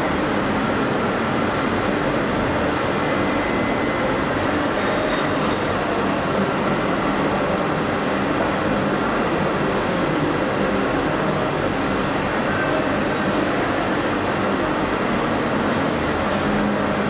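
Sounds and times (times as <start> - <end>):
faint constant hum: 0.0 - 17.0
workshop machinery running: 0.0 - 17.0.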